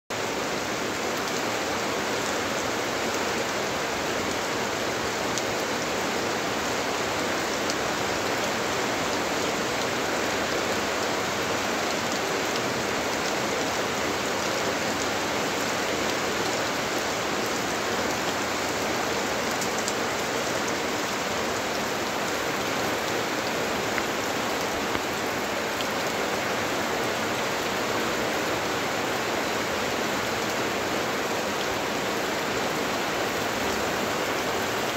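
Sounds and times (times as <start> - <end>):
rain on crops and trees: 0.1 - 34.9.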